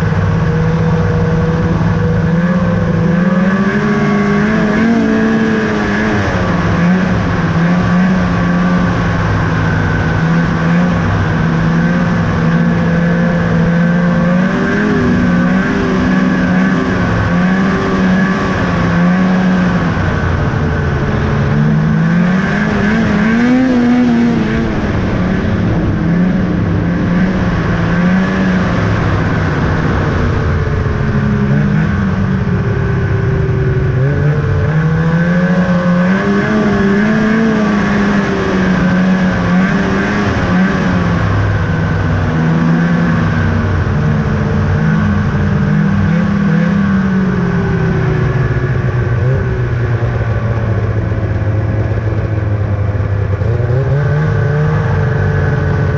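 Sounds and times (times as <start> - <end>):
snowmobile engine revving: 0.0 - 55.9.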